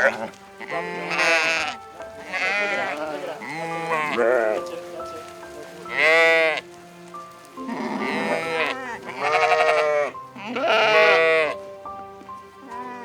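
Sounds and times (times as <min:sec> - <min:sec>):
sheep or goats bleating: 0:00.0 - 0:06.8, 0:07.5 - 0:11.6, 0:12.6 - 0:13.0
background music: 0:00.0 - 0:13.0.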